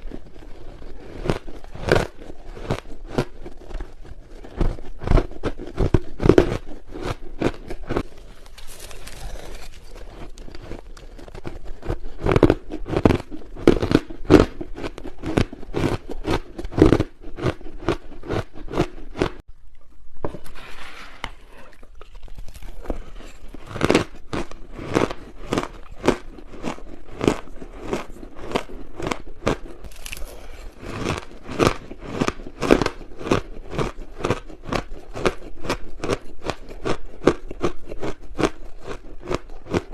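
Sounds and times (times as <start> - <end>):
ice crunching being chewed: 0.0 - 19.4, 21.4 - 39.9.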